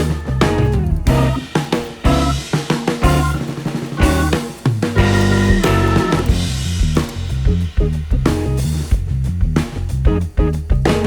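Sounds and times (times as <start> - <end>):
bass line: 0.0 - 11.0
drum kit beat: 0.0 - 11.0.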